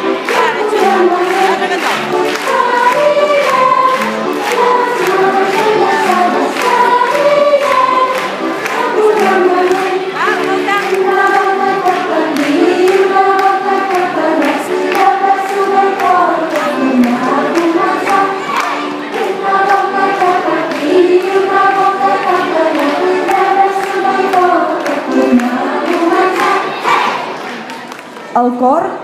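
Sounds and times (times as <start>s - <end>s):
group of voices singing: 0.0s - 27.8s.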